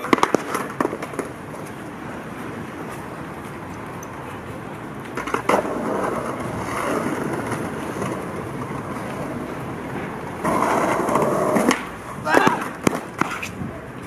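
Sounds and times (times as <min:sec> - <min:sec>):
skateboard clacking on ground: 0:00.0 - 0:14.0
skateboard wheels rolling on pavement: 0:00.0 - 0:14.0.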